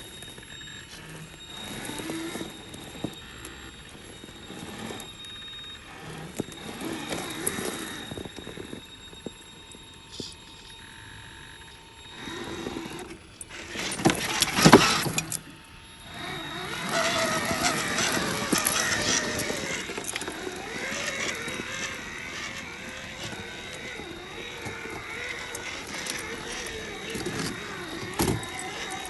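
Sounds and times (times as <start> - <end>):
toy truck motor whine: 0.0 - 29.0.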